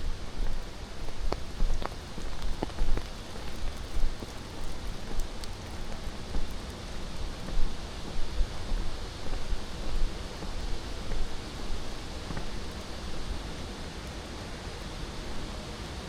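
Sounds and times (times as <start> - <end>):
footsteps on forest trail: 0.0 - 14.2.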